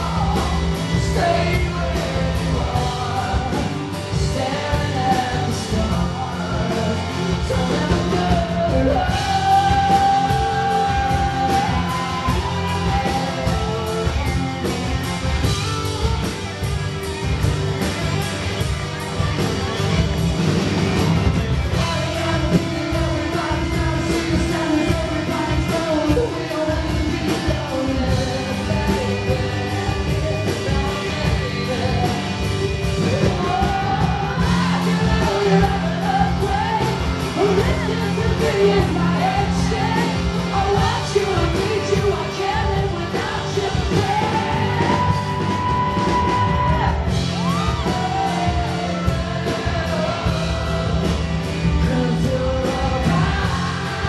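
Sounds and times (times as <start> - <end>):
man singing loudly: 0.0 - 14.4, 21.7 - 54.0
rock band with drums: 0.0 - 54.0.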